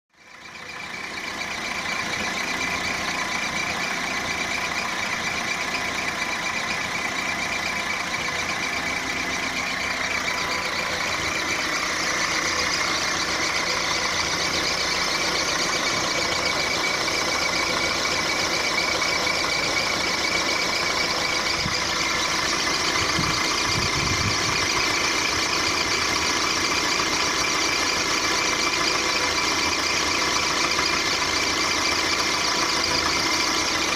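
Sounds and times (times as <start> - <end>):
car engine idling: 0.1 - 33.9
high squeaky noise: 0.6 - 33.9.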